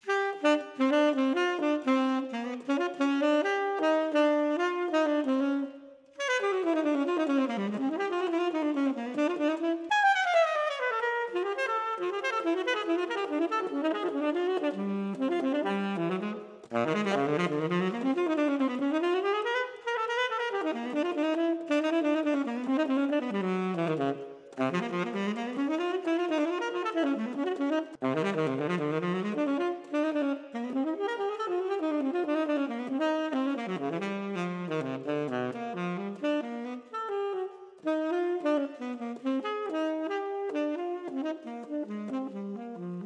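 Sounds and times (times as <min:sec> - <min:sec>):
tenor saxophone jazz improvisation: 0:00.0 - 0:43.0.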